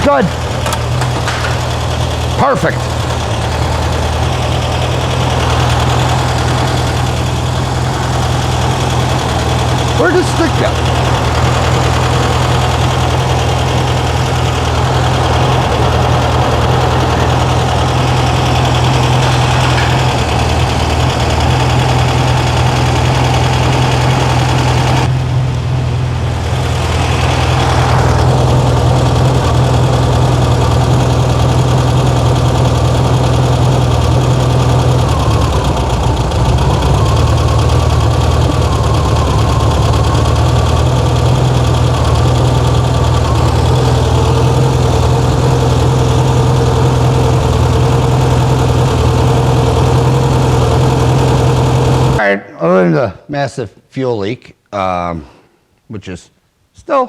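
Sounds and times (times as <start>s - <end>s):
car engine idling: 0.0s - 52.2s.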